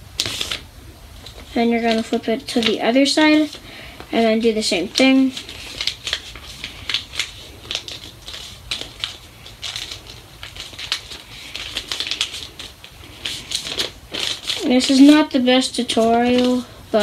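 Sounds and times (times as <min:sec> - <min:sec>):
paper being folded and creased: 0:00.2 - 0:17.0.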